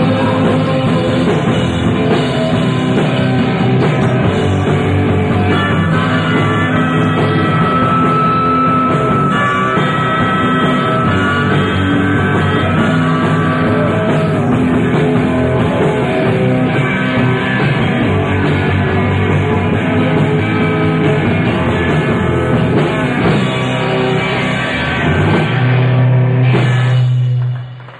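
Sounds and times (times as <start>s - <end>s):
rock band playing live: 0.0s - 27.9s.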